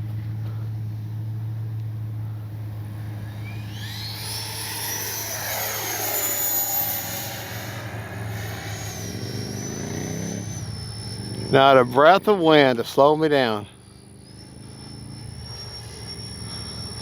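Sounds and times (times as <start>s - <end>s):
model jet fan whine: 0.0s - 17.0s
steady low hum: 0.0s - 17.0s.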